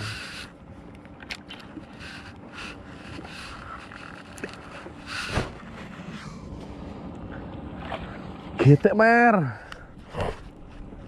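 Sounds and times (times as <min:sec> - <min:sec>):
water lapping around boat: 0:00.0 - 0:11.0.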